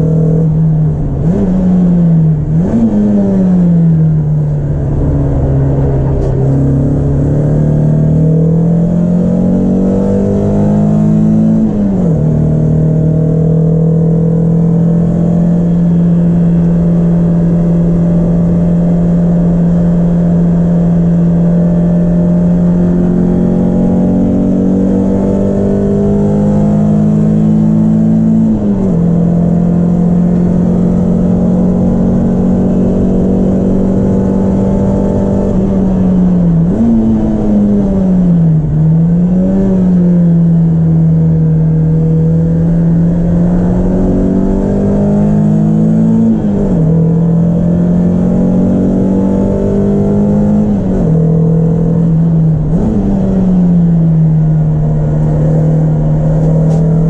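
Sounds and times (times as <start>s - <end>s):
car engine at high revs: 0.0s - 57.0s.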